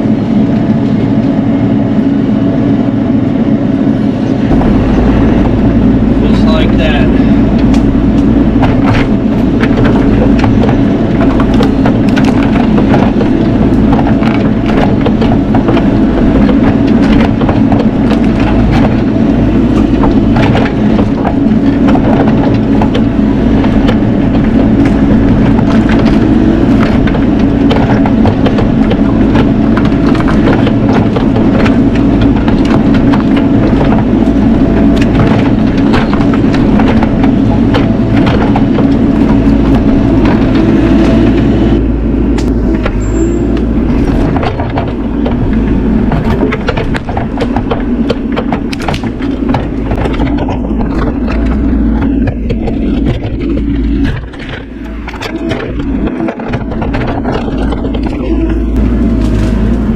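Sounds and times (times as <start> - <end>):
excavator diesel engine running: 0.0 - 59.9
wood and branches cracking: 4.5 - 59.9.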